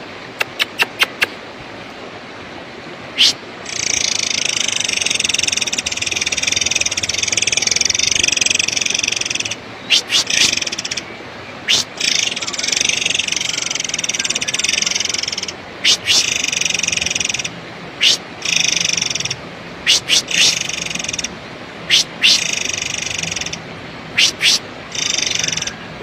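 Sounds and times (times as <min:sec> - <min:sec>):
bird calling buzzy rasping phrases: 0:03.0 - 0:26.0
sharp high-pitched bird notes: 0:03.2 - 0:11.0, 0:11.6 - 0:21.3, 0:21.9 - 0:23.6, 0:24.2 - 0:25.8.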